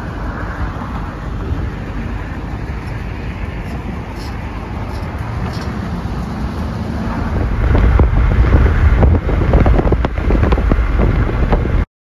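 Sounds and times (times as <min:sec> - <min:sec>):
low road rumble: 0:00.0 - 0:11.9
wind buffeting microphone: 0:00.0 - 0:11.9.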